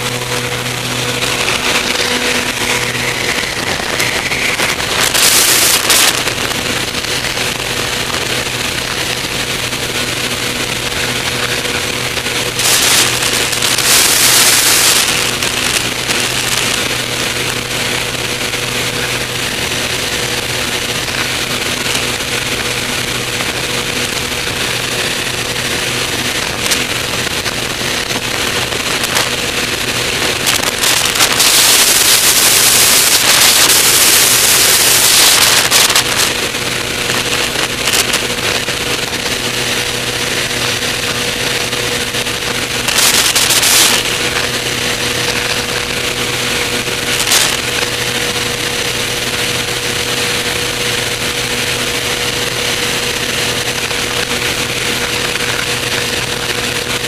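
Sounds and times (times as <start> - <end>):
light aircraft engine droning: 0.0 - 57.0
wind rushing over microphone: 0.0 - 57.0.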